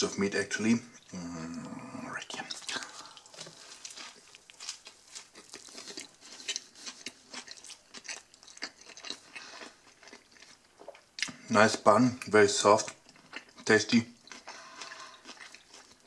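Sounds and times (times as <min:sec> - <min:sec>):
person chewing food: 0:00.9 - 0:11.5, 0:12.2 - 0:16.0.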